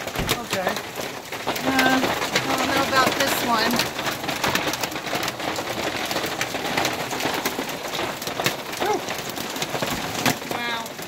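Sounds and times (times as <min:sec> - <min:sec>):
hail pelting a roof: 0:00.0 - 0:11.0.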